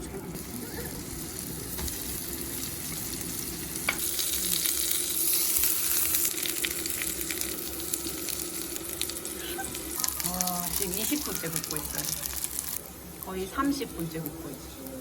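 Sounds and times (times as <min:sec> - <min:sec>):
mushrooms sizzling in a pan: 0:00.1 - 0:15.0.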